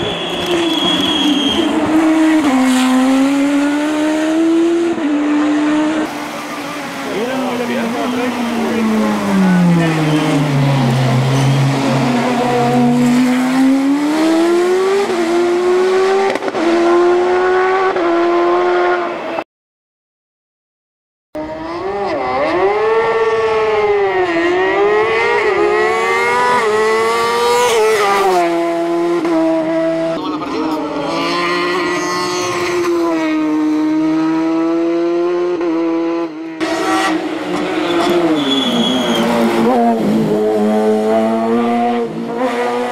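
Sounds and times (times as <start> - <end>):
race car engine at full throttle: 0.0 - 19.4, 21.4 - 42.9.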